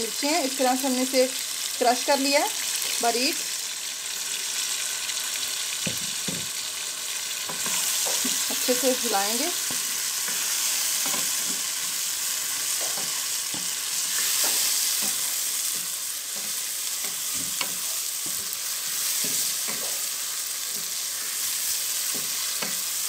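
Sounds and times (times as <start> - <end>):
chicken frying in hot oil: 0.0 - 23.0.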